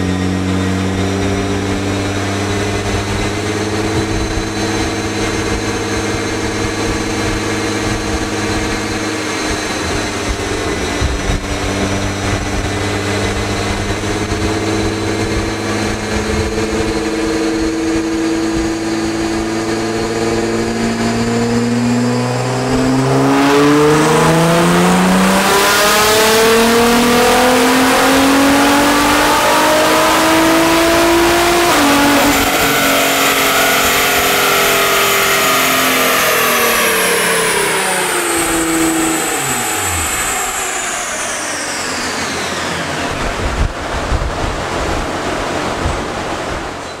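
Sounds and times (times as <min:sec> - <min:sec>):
car engine revving on dyno: 0:00.0 - 0:47.0
dyno rollers whining: 0:00.0 - 0:47.0.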